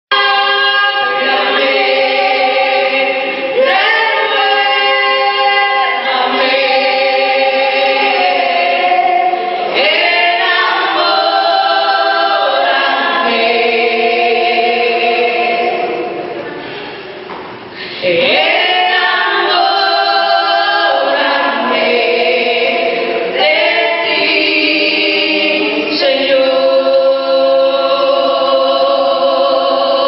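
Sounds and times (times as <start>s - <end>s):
vocal group singing a hymn: 0.1s - 30.0s.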